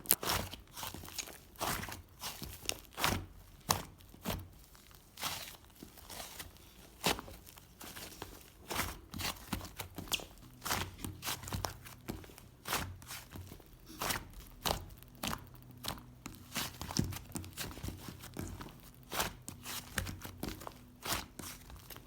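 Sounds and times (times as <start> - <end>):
crinkling and rustling with clicks: 0.0 - 22.0.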